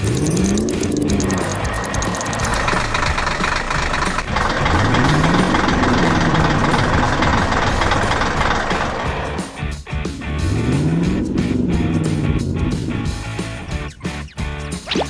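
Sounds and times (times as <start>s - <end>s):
cartoon truck engine running: 0.0s - 9.6s, 10.3s - 13.6s.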